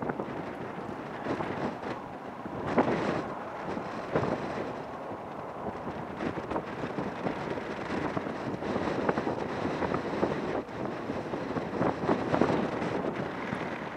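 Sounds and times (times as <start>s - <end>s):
freight train cars rolling on rails: 0.0s - 13.9s
wind on microphone: 0.0s - 13.9s.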